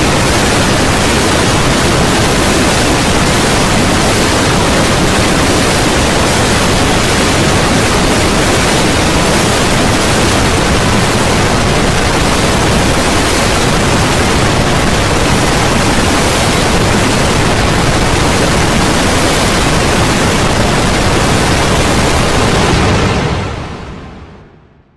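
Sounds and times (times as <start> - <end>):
static-like hiss: 0.0 - 24.6.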